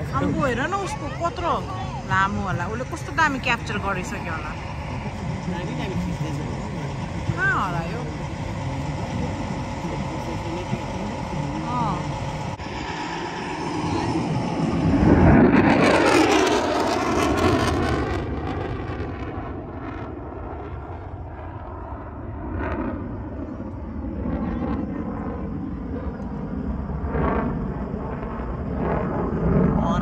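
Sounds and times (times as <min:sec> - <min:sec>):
airplane flying past: 0:00.0 - 0:30.0.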